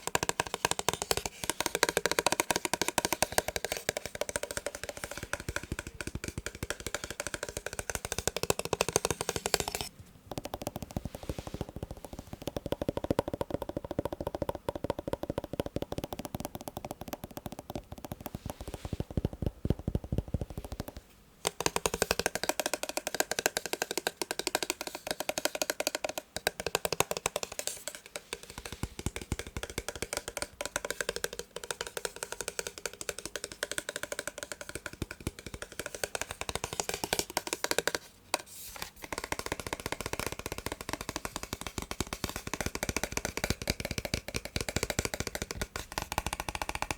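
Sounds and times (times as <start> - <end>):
massage gun tapping: 0.0 - 46.9.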